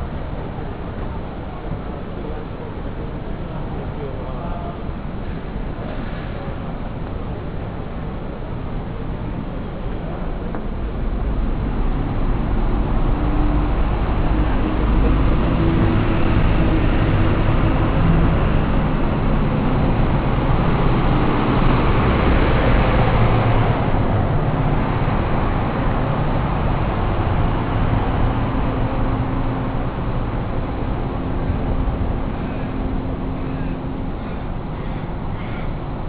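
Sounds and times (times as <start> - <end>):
bus engines rumbling: 0.0 - 36.0.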